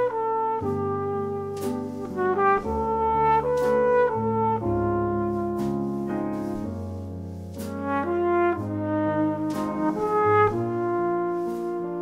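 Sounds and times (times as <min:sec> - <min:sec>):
jazz trumpet melody: 0:00.0 - 0:12.0.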